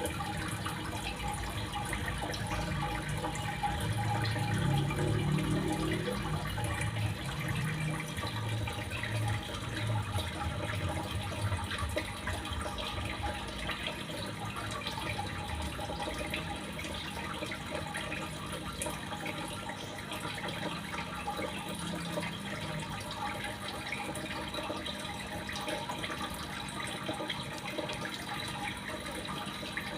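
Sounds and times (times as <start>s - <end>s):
running water splashing: 0.0s - 29.9s.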